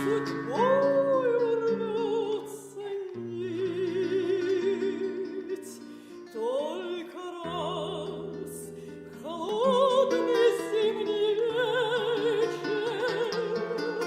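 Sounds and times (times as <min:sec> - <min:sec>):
woman singing operatically: 0:00.0 - 0:14.0.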